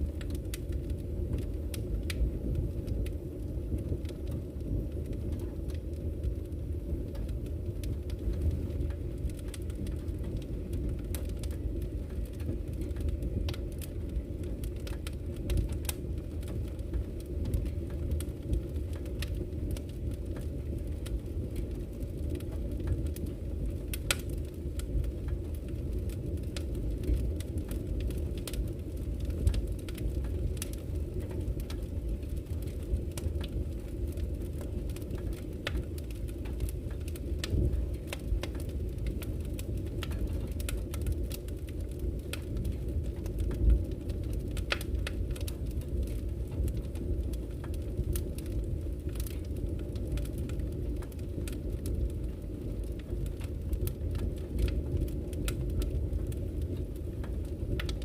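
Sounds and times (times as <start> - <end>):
burning logs popping: 0.0 - 58.0
wood fire crackling: 0.0 - 58.0.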